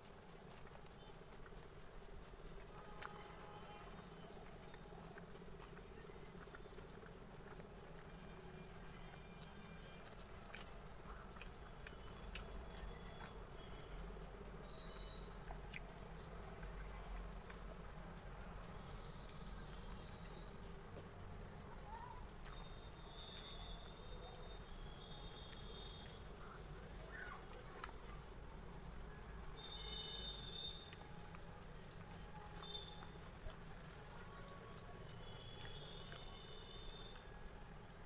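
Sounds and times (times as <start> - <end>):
faint eating clicks and taps: 0.0 - 38.0
high-pitched insect chirping: 0.0 - 38.0.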